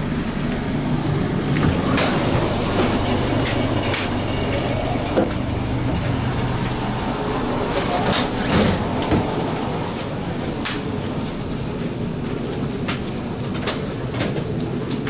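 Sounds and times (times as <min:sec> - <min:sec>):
train clanks and rattles: 0:00.0 - 0:15.0
train rumble and hum: 0:00.0 - 0:15.0.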